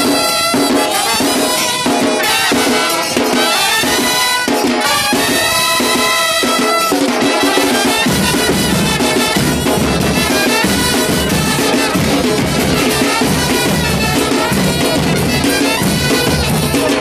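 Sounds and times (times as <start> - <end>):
band playing: 0.0 - 17.0
drums and percussion: 0.0 - 17.0
heavy bass and drum beat: 0.0 - 17.0.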